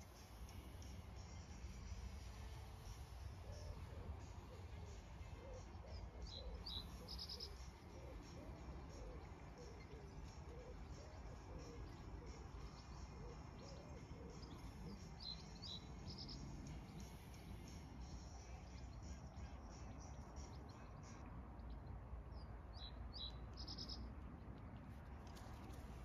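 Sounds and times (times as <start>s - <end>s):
small birds chirping: 0.0s - 24.1s
faint low background noise: 0.0s - 26.0s.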